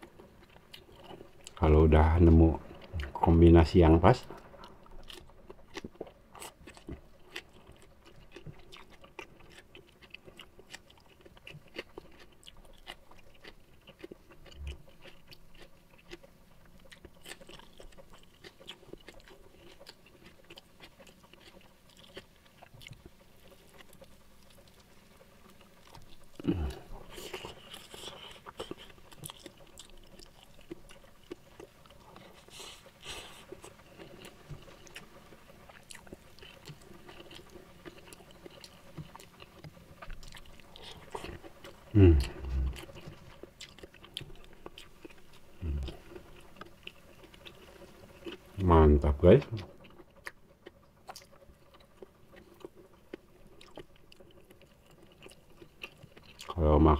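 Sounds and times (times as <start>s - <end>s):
person chewing: 0.0s - 3.4s, 4.2s - 56.6s.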